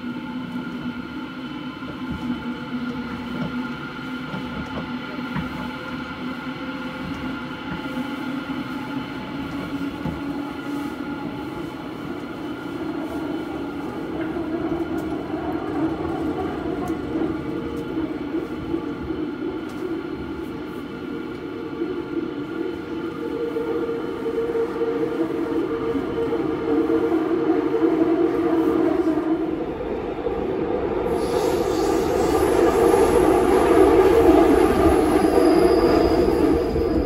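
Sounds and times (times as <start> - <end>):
subway wheels and track rumble: 0.0 - 37.0.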